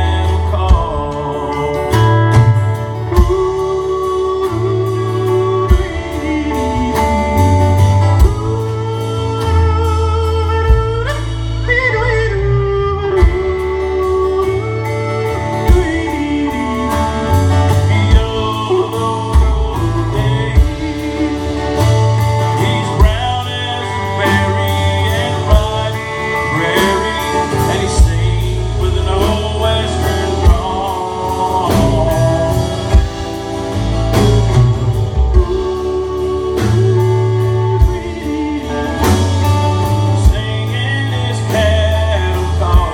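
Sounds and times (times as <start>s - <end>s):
guitar and bass: 0.0s - 42.9s
person singing: 0.0s - 42.9s
steady beat: 0.0s - 42.9s.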